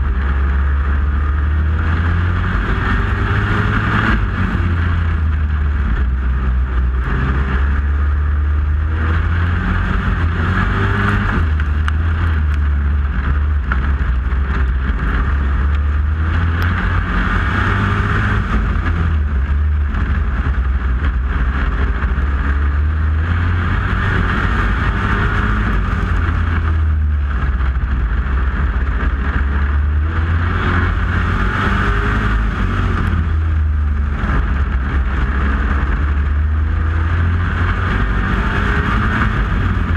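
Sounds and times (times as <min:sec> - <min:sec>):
loud engine drone: 0:00.0 - 0:39.9.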